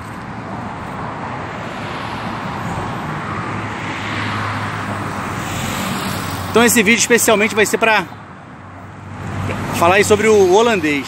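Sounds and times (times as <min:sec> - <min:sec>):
vehicle engine and tyre noise: 0:00.0 - 0:11.0.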